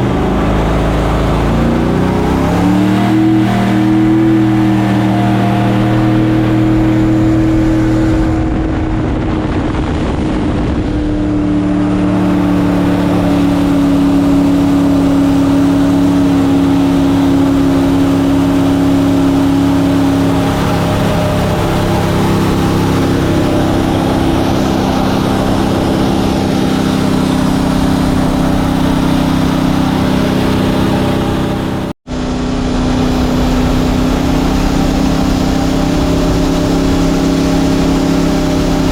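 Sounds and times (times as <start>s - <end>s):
boat engine running hard: 0.0s - 38.9s.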